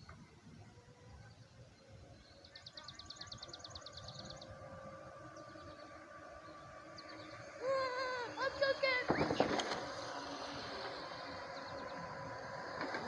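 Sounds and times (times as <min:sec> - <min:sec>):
low outdoor noise: 0:00.0 - 0:13.0.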